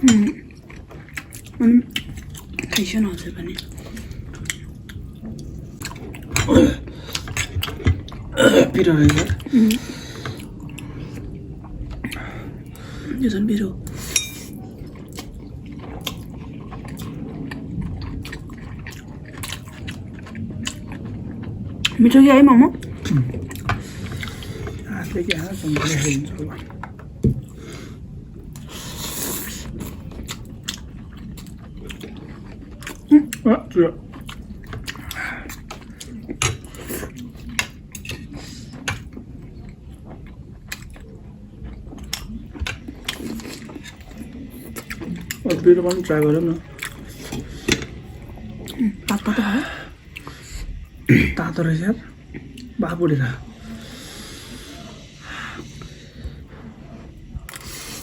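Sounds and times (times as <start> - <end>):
chewing and wet mouth sounds: 0.0 - 51.1, 52.0 - 58.0.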